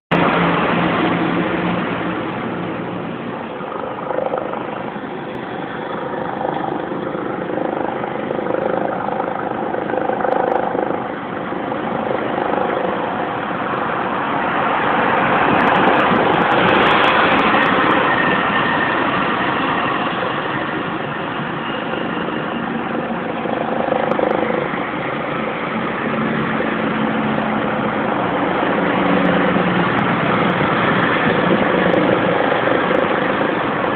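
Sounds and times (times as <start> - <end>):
mechanical engine drone: 0.1 - 33.9.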